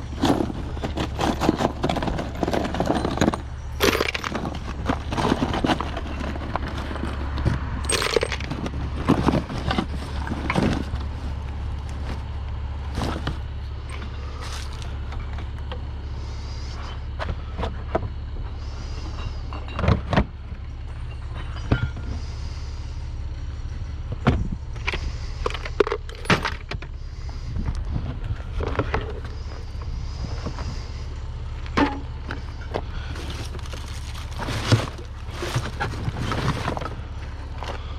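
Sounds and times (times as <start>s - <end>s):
scrap metal clanking and rattling: 0.0s - 15.6s, 17.4s - 22.5s, 24.2s - 31.0s, 31.6s - 37.9s
steady low hum: 0.0s - 37.9s.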